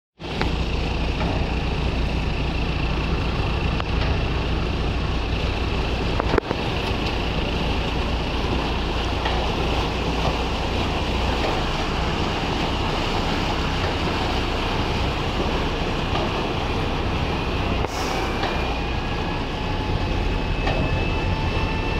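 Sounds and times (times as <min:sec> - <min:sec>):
motor boat engine running: 0:00.2 - 0:21.9
water washing past hull: 0:00.2 - 0:21.9.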